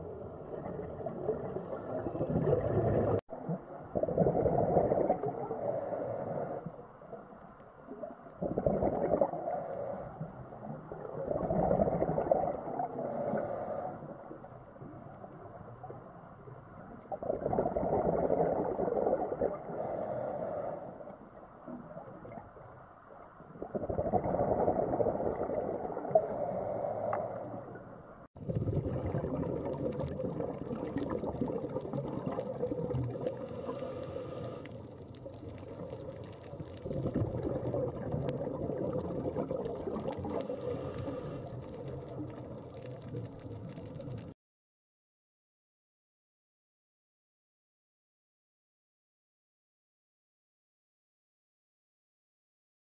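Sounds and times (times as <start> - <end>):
rushing water underwater: 0.0 - 44.4
underwater bubbling: 0.0 - 44.4.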